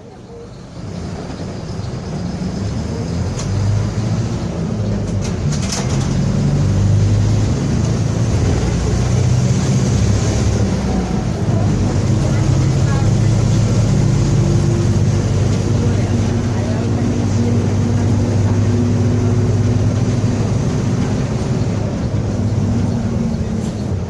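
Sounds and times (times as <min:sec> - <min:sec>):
diesel bus engine drone: 0:00.0 - 0:24.0.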